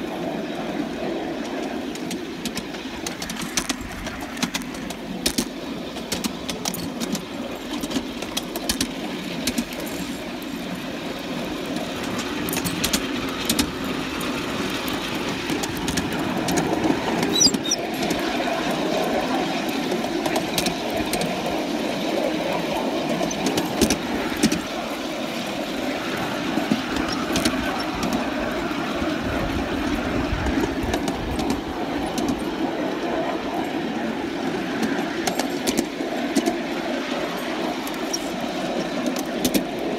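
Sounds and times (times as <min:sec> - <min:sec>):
model train rumbling: 0:00.0 - 0:39.9.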